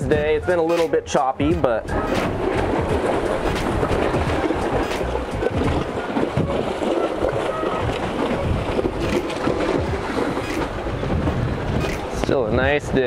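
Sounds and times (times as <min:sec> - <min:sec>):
choppy water splashing: 0:00.0 - 0:13.0
wind buffeting microphone: 0:00.0 - 0:13.0.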